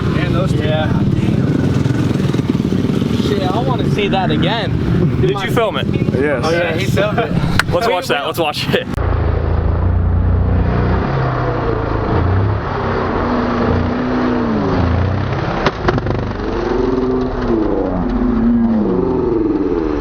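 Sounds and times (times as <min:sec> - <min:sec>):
dirt bike engines revving: 0:00.0 - 0:09.0, 0:09.7 - 0:20.0.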